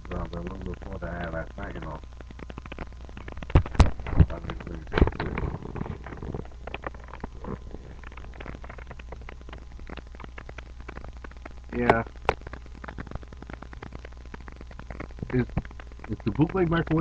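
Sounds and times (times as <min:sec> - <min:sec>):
crackling and rustling: 0:00.0 - 0:17.0
steady low hum: 0:00.0 - 0:17.0
small clicks: 0:02.1 - 0:17.0.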